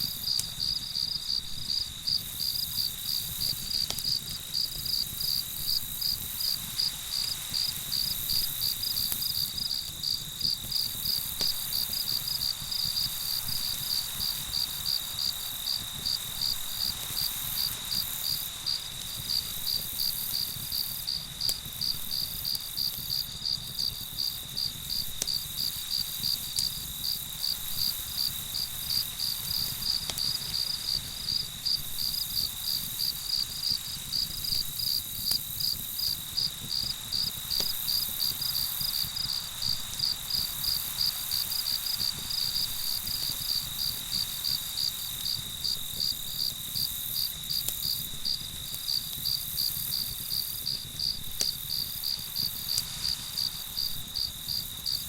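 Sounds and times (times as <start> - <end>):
campfire crackle: 0.0 - 55.0
crickets chirping: 0.0 - 55.0
high insect trill: 0.0 - 55.0.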